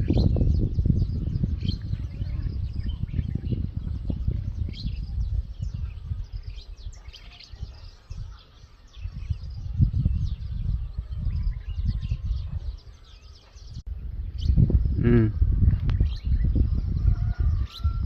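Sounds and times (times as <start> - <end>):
small birds chirping: 0.0 - 18.0
wind on microphone: 0.0 - 18.0.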